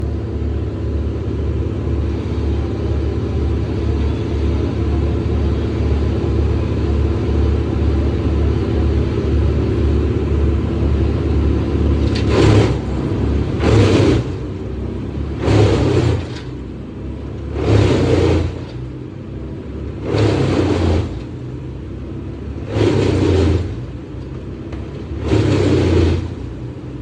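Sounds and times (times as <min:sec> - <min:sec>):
large engine rumbling: 0:00.0 - 0:27.0.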